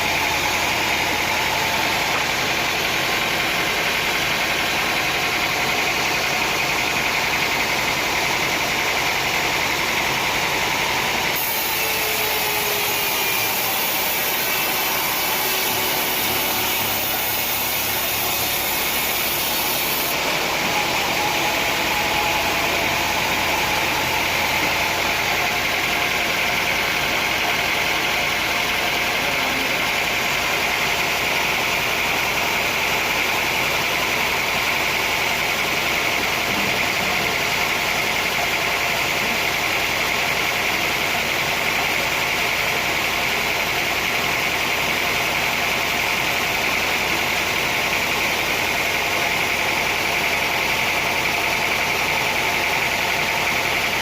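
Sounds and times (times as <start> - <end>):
sawmill machinery droning: 0.0 - 54.0.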